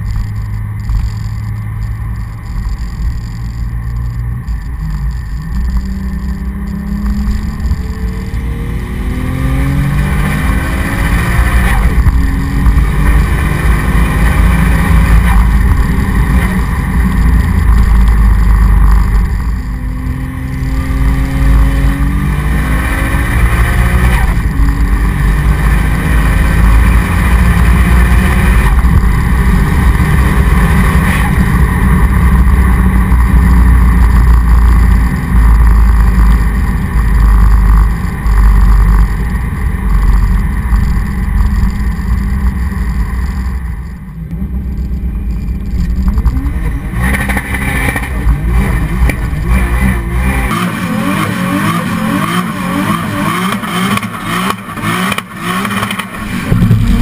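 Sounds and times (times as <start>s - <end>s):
turbocharged car engine revving: 0.0s - 57.0s.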